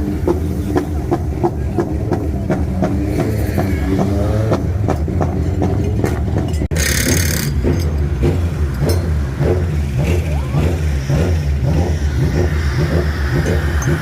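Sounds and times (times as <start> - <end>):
race car engines rumbling: 0.0 - 14.0.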